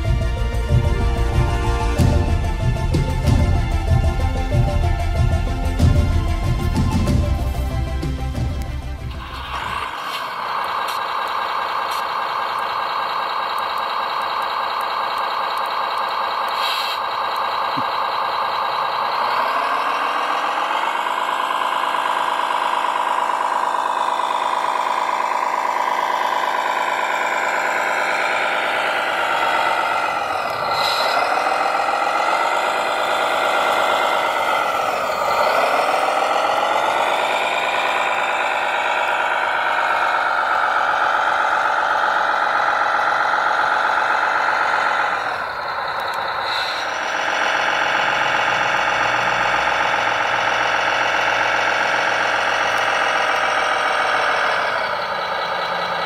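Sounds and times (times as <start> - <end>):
toy vehicle motor running: 9.1 - 56.0.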